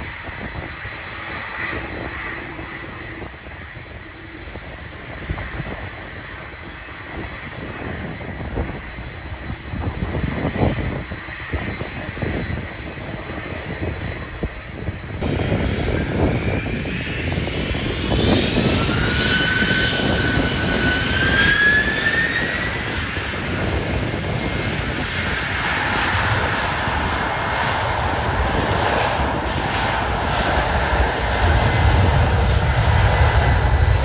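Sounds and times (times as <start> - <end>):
high engine whine: 0.0 - 34.0
jet airliner engines roaring: 0.0 - 34.0.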